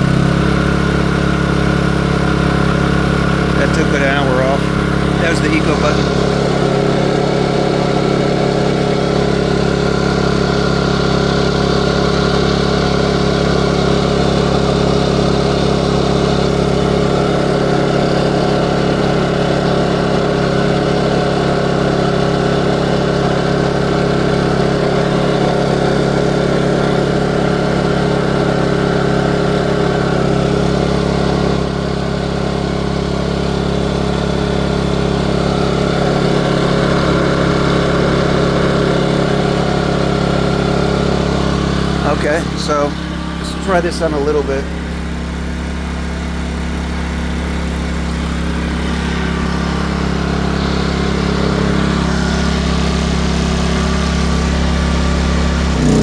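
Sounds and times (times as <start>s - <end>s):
generator running steadily: 0.0s - 56.0s.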